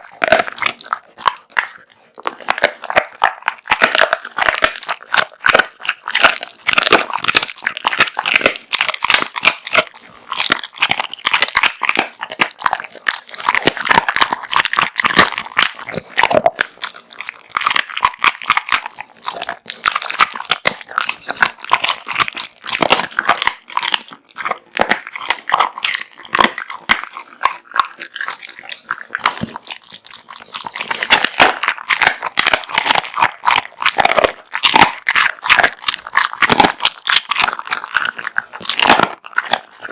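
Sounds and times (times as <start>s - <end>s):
dog crunching and chewing food: 0.0s - 39.9s.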